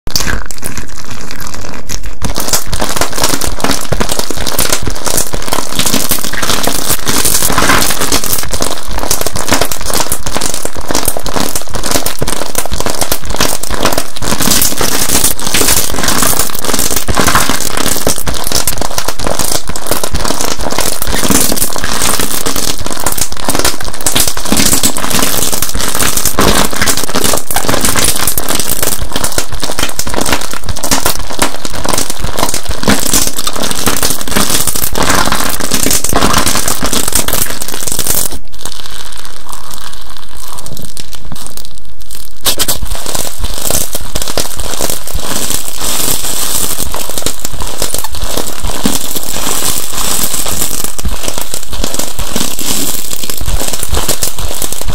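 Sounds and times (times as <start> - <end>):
crunchy slime crackling: 0.0 - 54.9.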